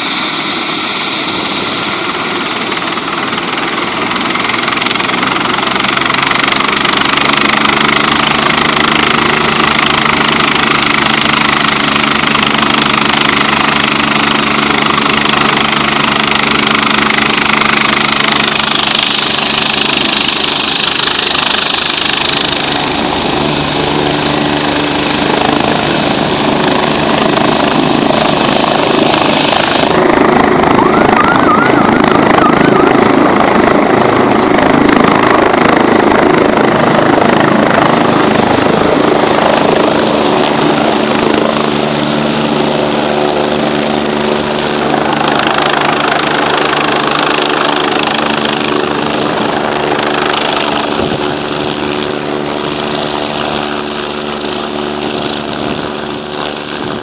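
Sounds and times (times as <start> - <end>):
helicopter rotor blades beating: 0.0 - 57.0
helicopter turbine whine: 0.0 - 57.0.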